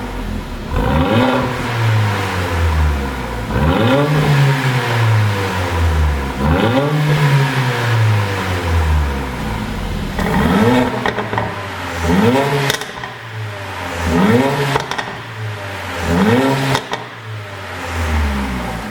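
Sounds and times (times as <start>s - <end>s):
car engine revving with exhaust crackle: 0.0s - 18.9s.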